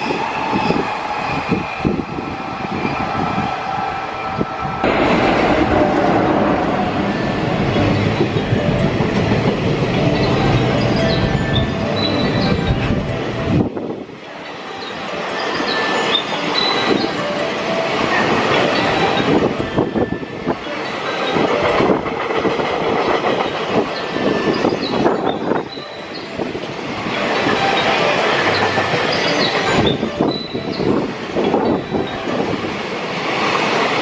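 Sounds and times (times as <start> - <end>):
train wheels clattering over rails: 0.0 - 14.0, 17.8 - 34.0
wheels squeaking on rails: 0.0 - 34.0.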